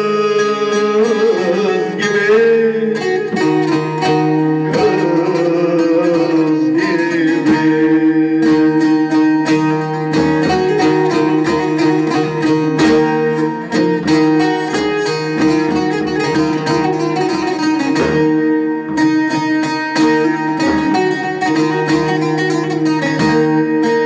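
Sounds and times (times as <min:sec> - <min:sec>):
long-necked lute playing folk tune: 0:00.0 - 0:24.0.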